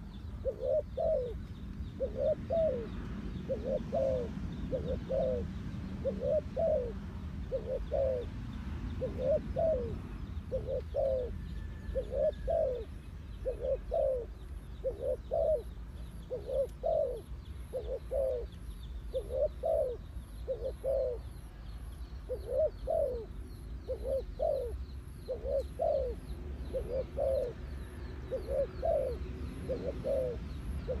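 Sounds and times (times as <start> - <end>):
dove cooing: 0.0 - 21.3, 22.2 - 31.0.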